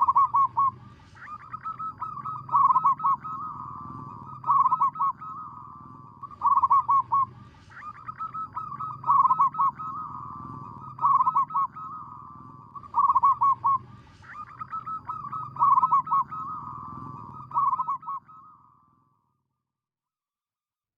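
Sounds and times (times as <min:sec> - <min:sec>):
doves cooing: 0:00.0 - 0:18.6
steady low hum: 0:00.0 - 0:18.9.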